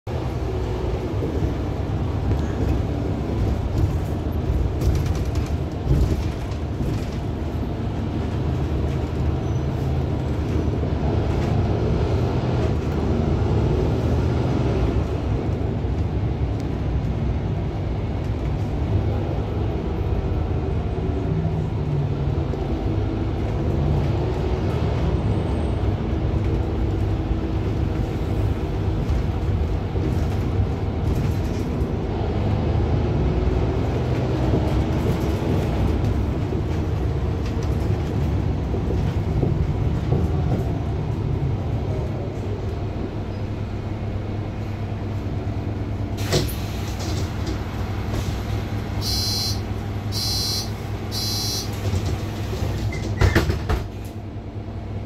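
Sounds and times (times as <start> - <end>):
bus rumbling from inside: 0.0 - 55.0
tyres on road: 0.1 - 55.0.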